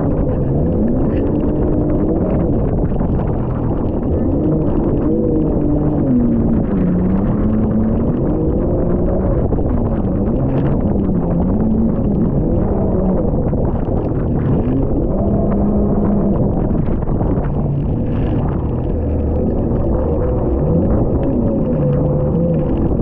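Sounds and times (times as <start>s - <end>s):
jet ski engine running: 0.0s - 23.0s
wind rumble on microphone: 0.0s - 23.0s.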